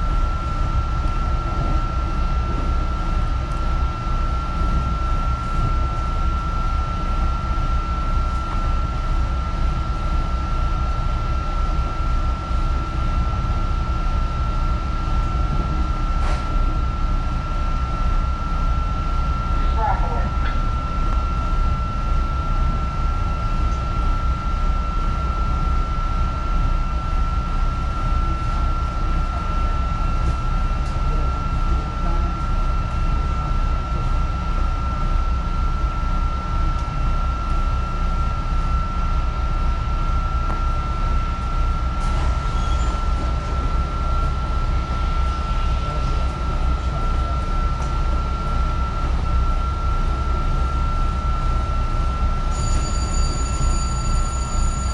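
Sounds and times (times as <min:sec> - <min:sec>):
constant high whine: 0:00.0 - 0:54.9
train low rumble: 0:00.0 - 0:54.9.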